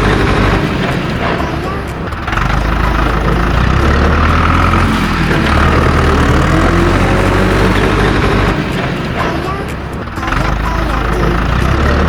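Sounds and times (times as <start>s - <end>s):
deep engine-like rumble: 0.0s - 12.0s.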